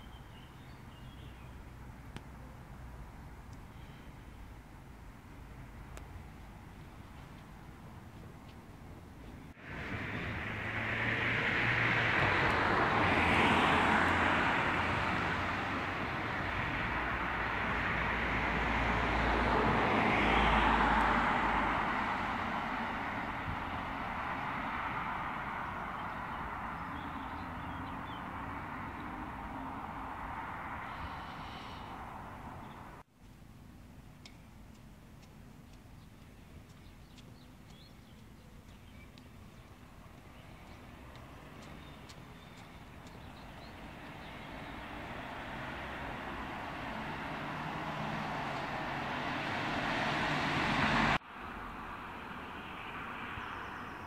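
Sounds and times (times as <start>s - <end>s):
road traffic passing: 0.0s - 54.0s.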